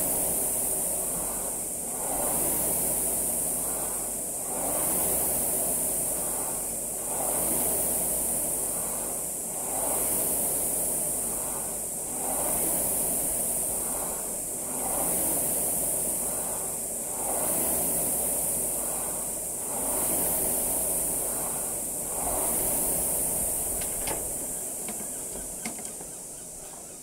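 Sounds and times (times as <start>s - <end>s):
rowing machine flywheel whooshing: 0.0s - 27.0s.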